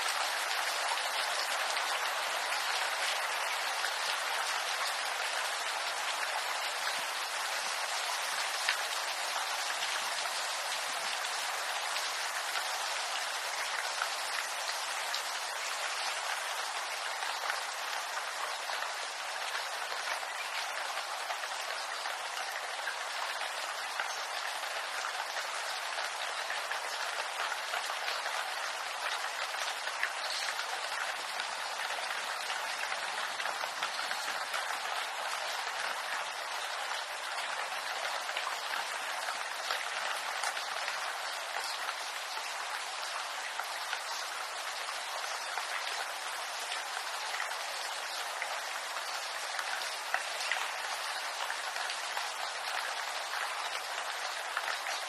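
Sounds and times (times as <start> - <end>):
rain pattering on foliage: 0.0 - 55.0.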